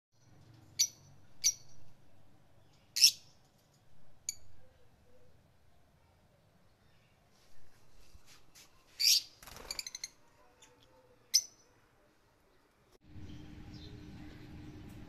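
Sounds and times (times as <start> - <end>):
lovebirds chirping: 0.2 - 5.8, 6.6 - 14.9.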